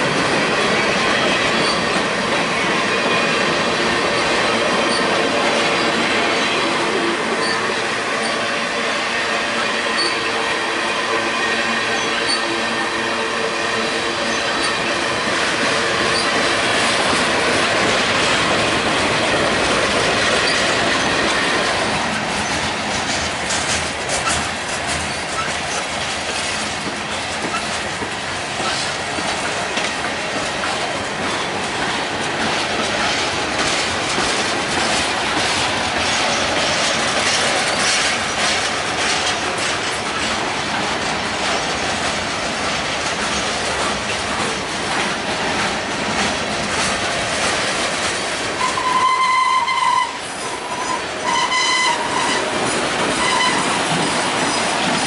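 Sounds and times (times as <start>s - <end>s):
train wheels clattering over rail joints: 0.0s - 8.5s, 14.2s - 55.0s.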